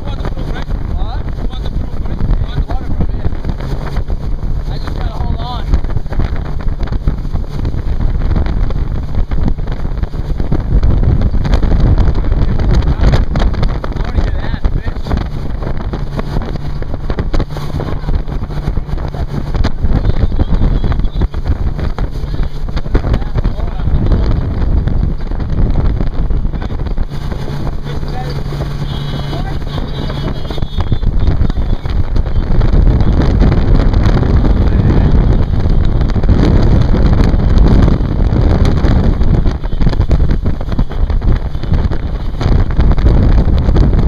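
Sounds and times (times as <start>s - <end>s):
motorboat engine drone: 0.0s - 44.0s
water rushing past hull: 0.0s - 44.0s
wind buffeting microphone: 0.0s - 44.0s.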